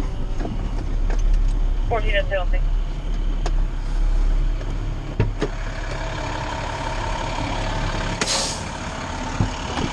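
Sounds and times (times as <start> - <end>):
diesel engine idling: 0.0 - 9.9.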